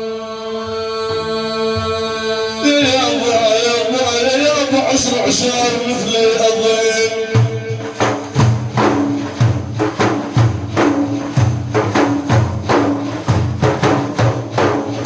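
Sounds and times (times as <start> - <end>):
frame drums beating: 2.7 - 15.0.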